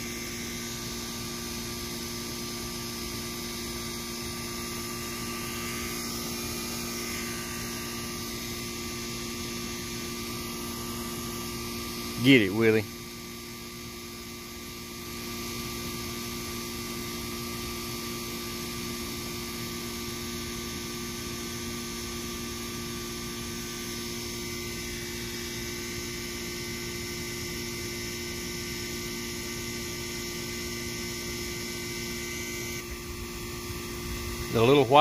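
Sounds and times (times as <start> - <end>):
steady hum of constant tones: 0.0 - 35.0.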